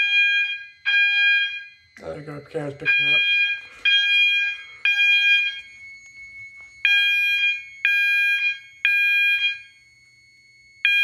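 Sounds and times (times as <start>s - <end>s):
fire alarm tone blasts: 0.0s - 11.0s
faint steady high tone: 1.6s - 10.9s.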